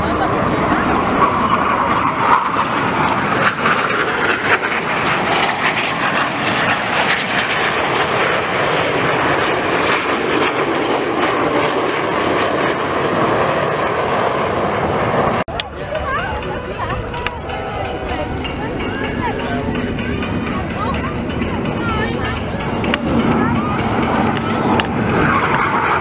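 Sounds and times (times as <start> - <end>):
jet fighters flying past: 0.0 - 26.0
jet noise crackles: 0.0 - 26.0.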